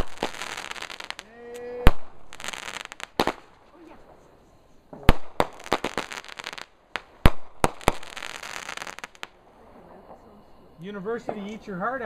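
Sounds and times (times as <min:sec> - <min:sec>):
firework bangs: 0:00.0 - 0:04.2, 0:04.9 - 0:10.4
firework crackling: 0:00.0 - 0:10.4.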